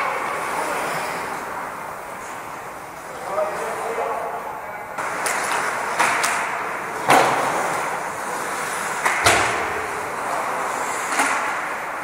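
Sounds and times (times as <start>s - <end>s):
skate blades scraping ice: 0.0s - 2.6s, 5.0s - 12.0s
sharp skate sweeping sounds: 0.0s - 4.4s, 5.0s - 12.0s
rink background noise: 0.0s - 12.0s.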